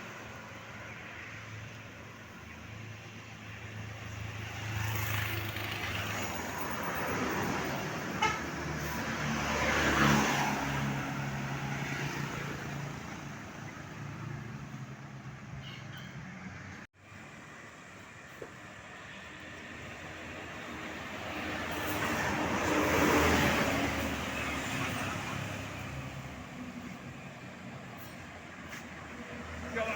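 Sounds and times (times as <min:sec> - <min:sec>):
road traffic passing: 0:00.0 - 0:29.9.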